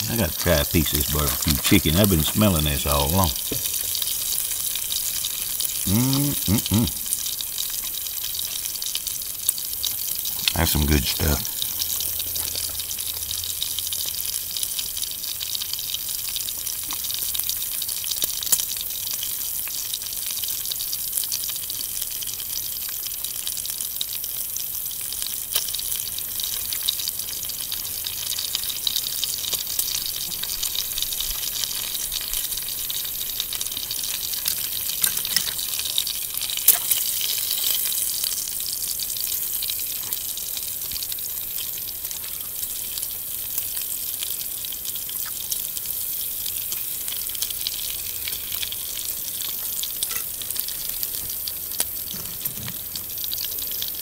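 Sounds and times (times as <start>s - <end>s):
bacon sizzling with pops: 0.0s - 54.0s.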